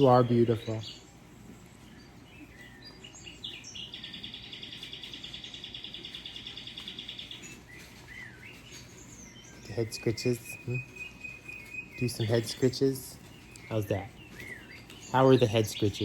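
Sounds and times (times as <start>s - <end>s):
bird chirps: 0.0s - 16.0s
rapid high bird trill: 0.0s - 16.0s.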